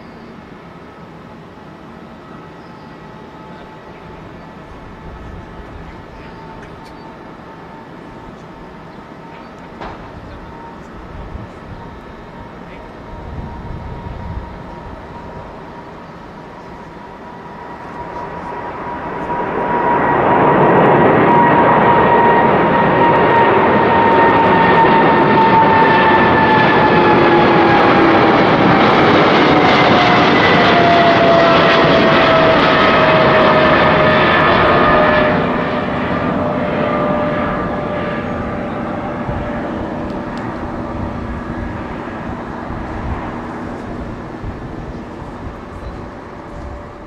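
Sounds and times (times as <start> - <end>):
jet engines roaring at takeoff: 0.0 - 47.0.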